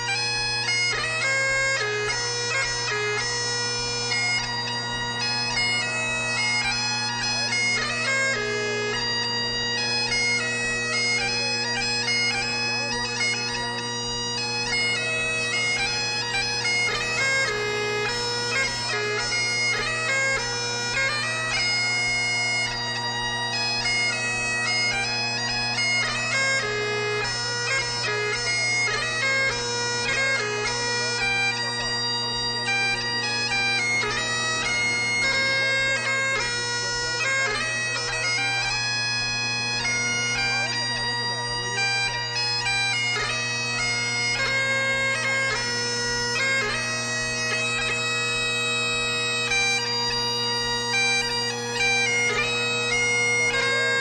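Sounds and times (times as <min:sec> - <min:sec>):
bagpipes playing a tune: 0:00.0 - 0:54.0.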